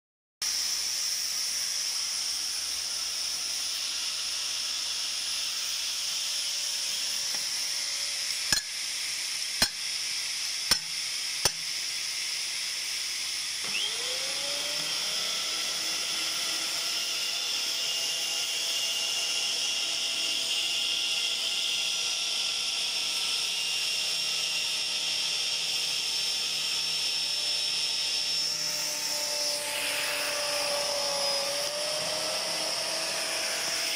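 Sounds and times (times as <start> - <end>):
pipe threading machine hissing: 0.4 - 33.9
die head cutting pipe whine: 1.6 - 33.9.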